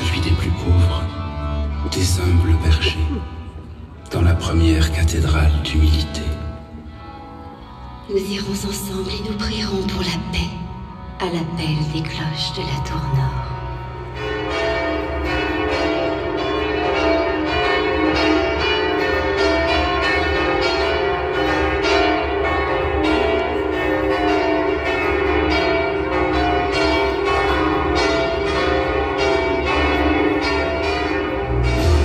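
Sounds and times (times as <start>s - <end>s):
church bells pealing: 0.0s - 32.0s.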